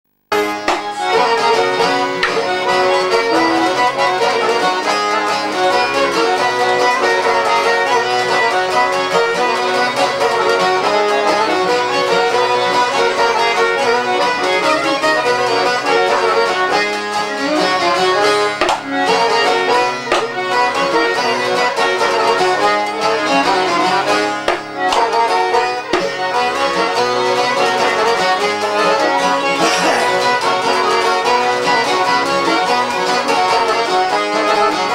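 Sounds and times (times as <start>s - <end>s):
instrumental folk music: 0.3s - 34.9s.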